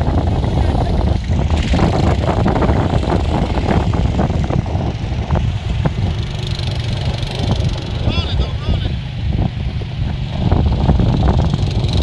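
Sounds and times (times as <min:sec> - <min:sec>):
quad engine under throttle: 0:00.0 - 0:12.0.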